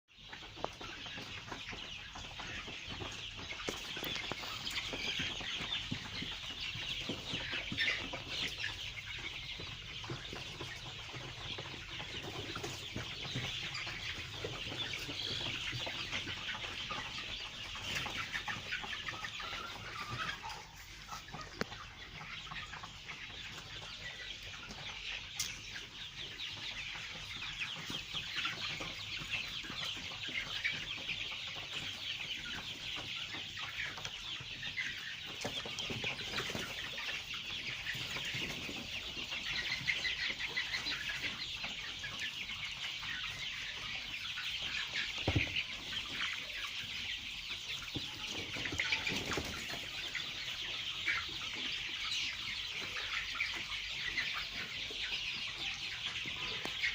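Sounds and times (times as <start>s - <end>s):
chickens clucking: 0.1s - 56.9s.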